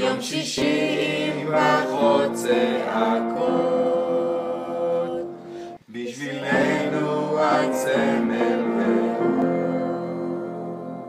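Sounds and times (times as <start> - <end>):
group singing: 0.0 - 11.0
music: 0.0 - 11.0.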